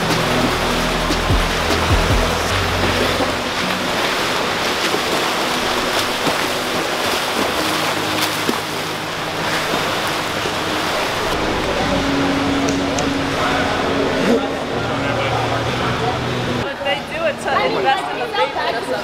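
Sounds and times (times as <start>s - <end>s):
swimmers splashing: 0.0s - 16.7s.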